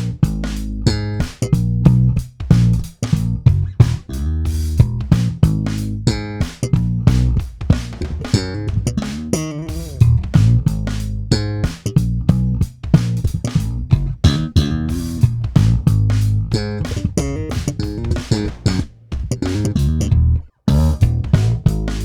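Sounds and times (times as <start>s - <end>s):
funky electric bass line: 0.0s - 22.0s.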